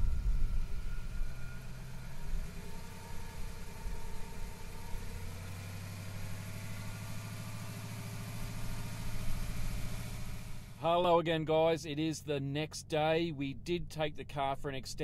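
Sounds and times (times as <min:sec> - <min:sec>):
car engine running at raised revs: 0:00.0 - 0:15.0.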